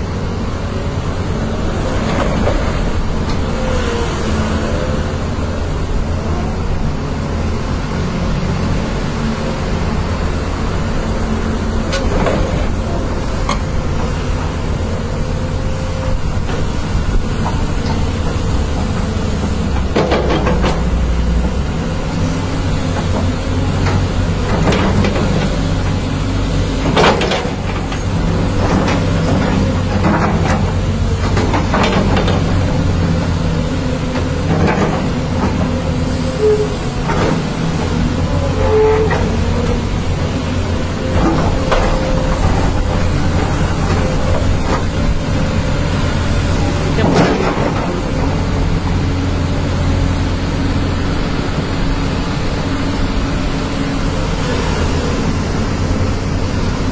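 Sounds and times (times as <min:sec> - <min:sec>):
excavator diesel engines rumbling: 0:00.0 - 0:56.9.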